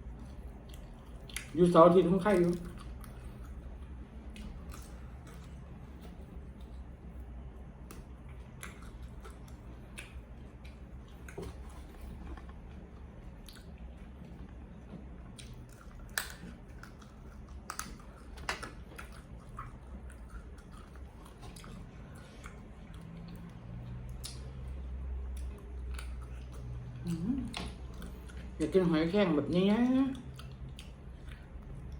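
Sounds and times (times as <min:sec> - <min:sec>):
person chewing food: 0:00.0 - 0:28.6, 0:30.1 - 0:31.9.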